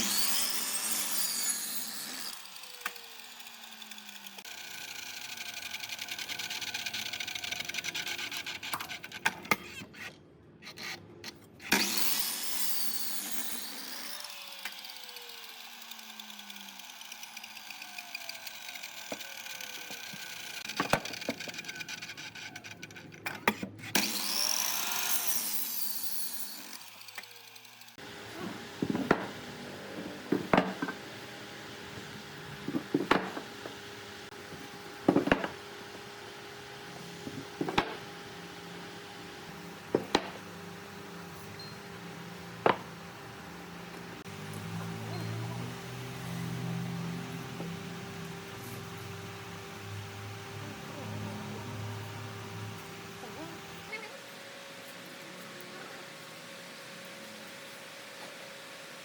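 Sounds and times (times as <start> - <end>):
power tool whine slowing down: 0.0 - 9.2, 11.7 - 23.0, 23.9 - 54.1
sawing wood: 0.0 - 59.0.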